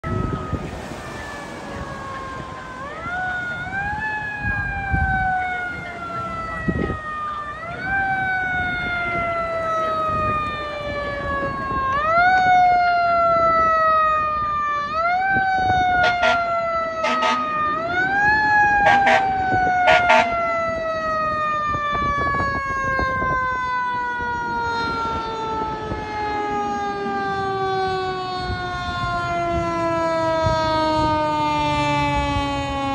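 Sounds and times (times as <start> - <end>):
fire truck siren wailing: 0.0 - 32.9
passing street traffic: 0.0 - 32.9.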